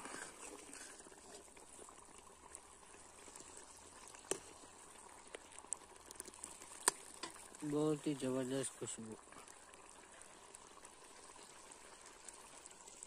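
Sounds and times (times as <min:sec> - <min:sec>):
gravy simmering: 0:00.0 - 0:13.0
ladle pouring gravy into pan: 0:00.0 - 0:13.0.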